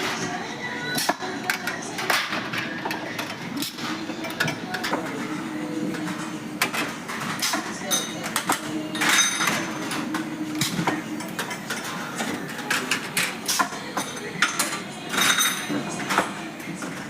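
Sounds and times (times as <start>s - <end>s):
sheet metal parts clattering: 1.0s - 16.4s.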